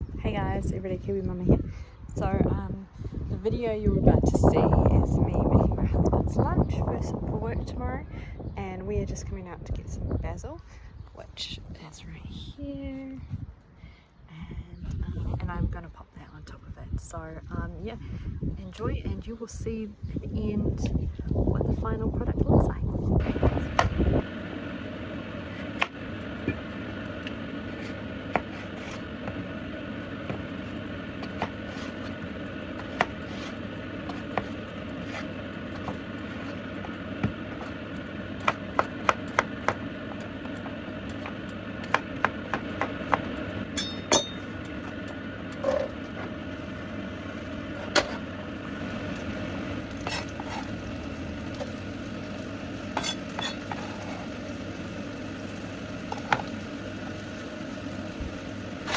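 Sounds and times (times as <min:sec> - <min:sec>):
steady background hum: 0:00.0 - 0:58.9.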